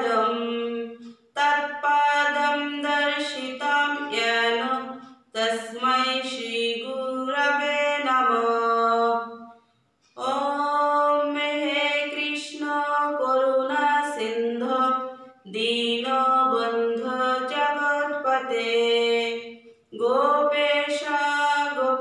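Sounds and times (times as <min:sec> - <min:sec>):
woman chanting a prayer: 0:00.0 - 0:09.4, 0:10.2 - 0:22.0.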